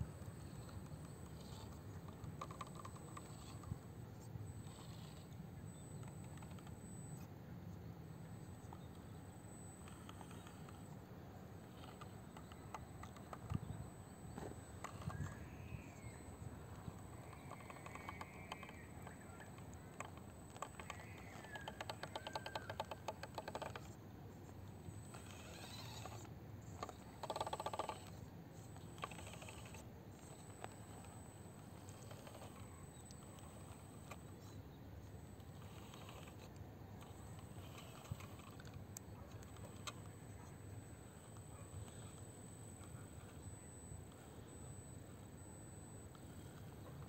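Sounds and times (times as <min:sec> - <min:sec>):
toy crawler clicking on rock: 0:00.2 - 0:03.8, 0:09.7 - 0:10.9, 0:11.6 - 0:24.0, 0:25.0 - 0:34.6, 0:35.3 - 0:47.0
faint short chirps: 0:00.2 - 0:24.0, 0:24.9 - 0:47.0.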